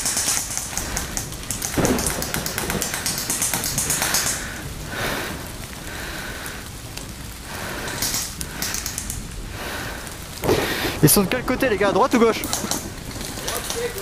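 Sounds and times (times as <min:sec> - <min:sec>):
rain on foliage: 0:00.0 - 0:14.0.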